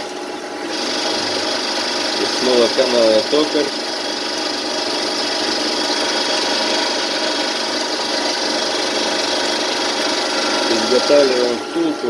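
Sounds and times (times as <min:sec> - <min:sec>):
lathe machining metal: 0:00.0 - 0:12.0.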